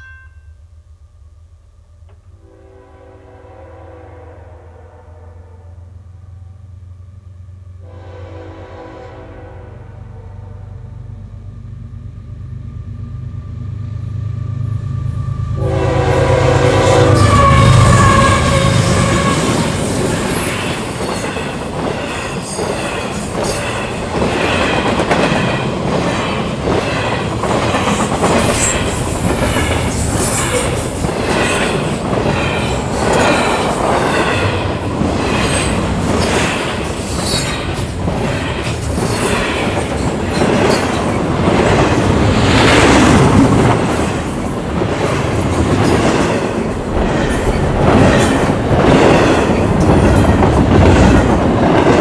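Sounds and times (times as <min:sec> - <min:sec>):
freight train rumble: 0:00.0 - 0:52.0.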